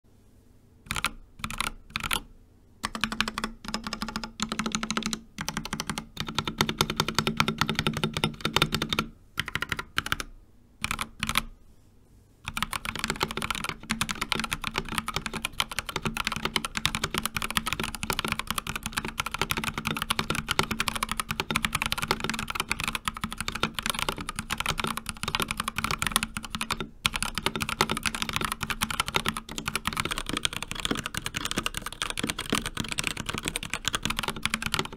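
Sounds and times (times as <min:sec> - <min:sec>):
mechanical keyboard typing: 0:00.9 - 0:11.5, 0:12.4 - 0:34.9.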